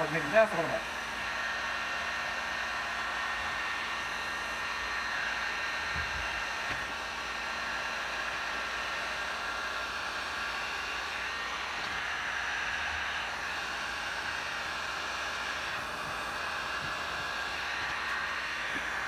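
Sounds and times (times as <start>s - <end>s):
heat gun blowing: 0.0s - 19.0s.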